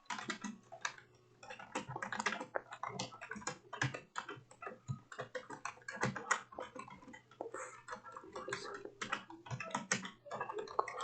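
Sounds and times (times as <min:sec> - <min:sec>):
fast typing on keyboard: 0:00.0 - 0:11.0.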